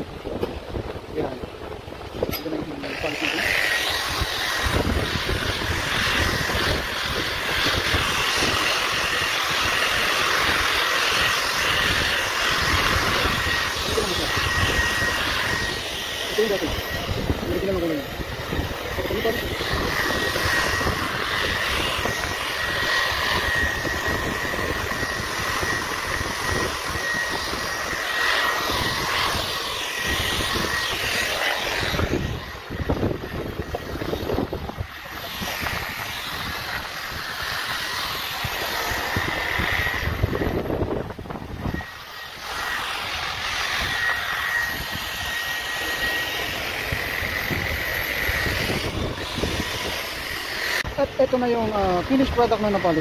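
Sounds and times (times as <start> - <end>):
electric grinder motor whine: 0.0 - 53.0
polishing pad hissing on metal: 2.5 - 53.0.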